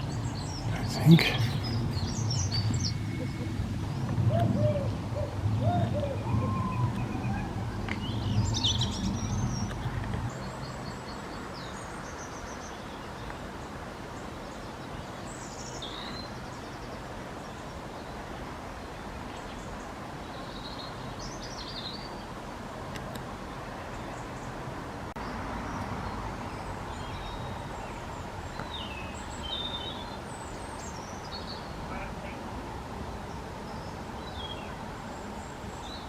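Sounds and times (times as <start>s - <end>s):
background hiss: 0.0s - 36.0s
songbirds chirping: 0.0s - 36.0s.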